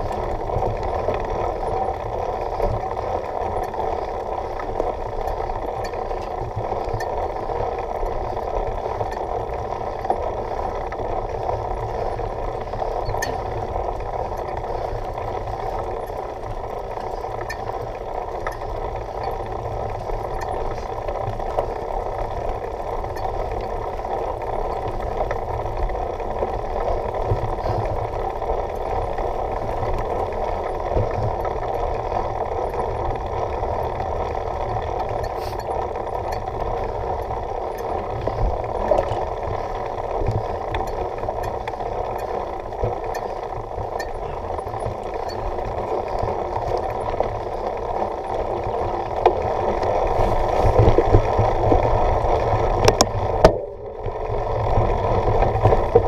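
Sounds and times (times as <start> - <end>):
bike rumbling and rattling: 0.0 - 56.0.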